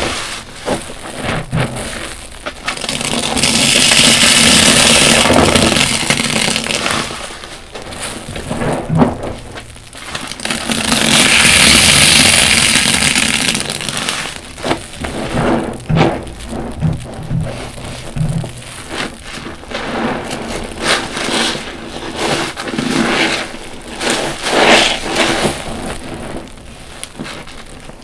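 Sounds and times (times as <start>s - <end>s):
sponges squeezed in soapy water: 0.0s - 27.6s.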